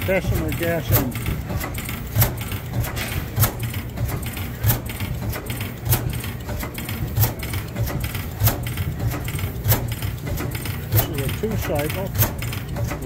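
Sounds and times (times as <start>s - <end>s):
gas engine firing beat: 0.0s - 13.0s.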